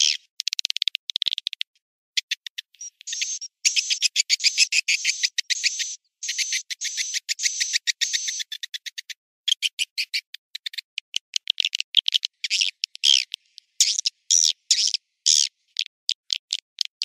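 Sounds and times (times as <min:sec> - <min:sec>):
high bird chirps and twitters: 0:00.0 - 0:17.0.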